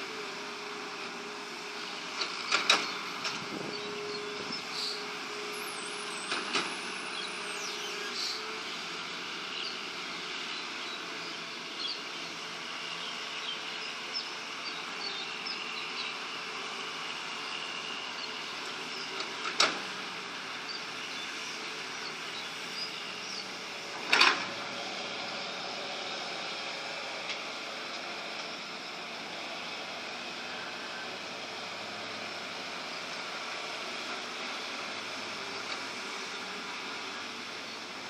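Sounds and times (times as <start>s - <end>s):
excavator engine running roughly: 0.0s - 38.0s.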